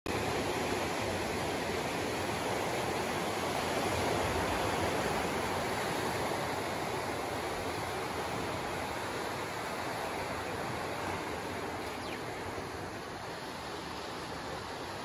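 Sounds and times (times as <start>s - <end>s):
ocean waves breaking: 0.1s - 15.0s.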